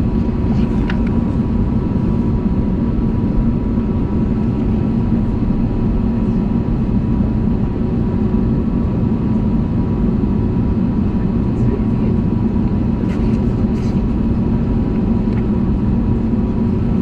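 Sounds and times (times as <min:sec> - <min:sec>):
airliner engine drone: 0:00.0 - 0:17.0.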